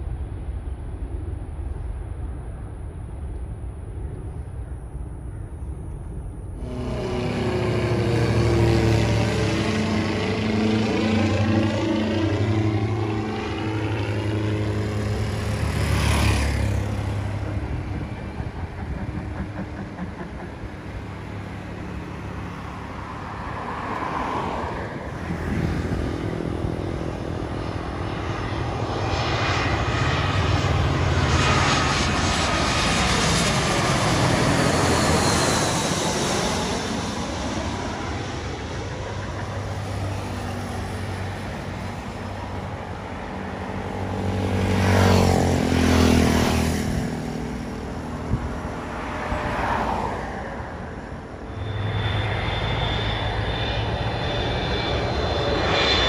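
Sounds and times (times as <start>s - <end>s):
jet airliner engines: 0.0s - 56.0s
propeller plane engine drone: 0.0s - 56.0s.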